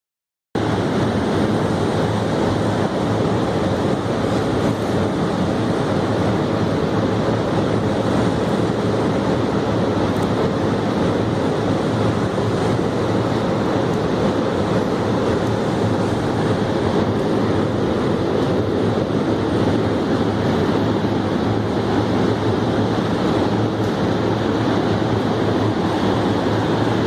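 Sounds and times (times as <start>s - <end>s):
machine motors and air flow: 0.6s - 27.0s.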